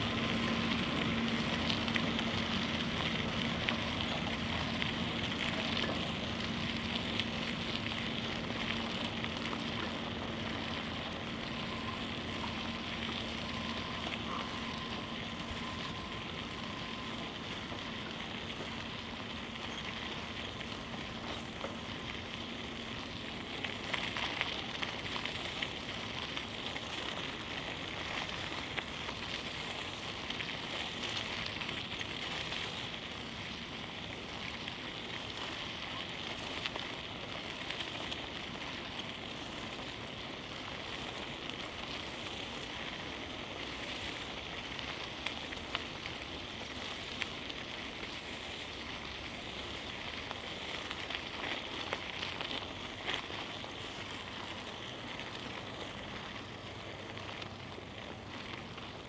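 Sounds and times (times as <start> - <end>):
bicycle riding hiss: 0.0 - 59.0.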